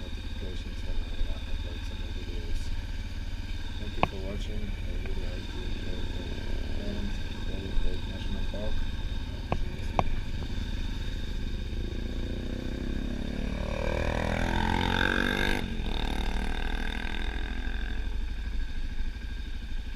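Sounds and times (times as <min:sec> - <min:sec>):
motorcycle engine rumbling: 0:00.0 - 0:19.9.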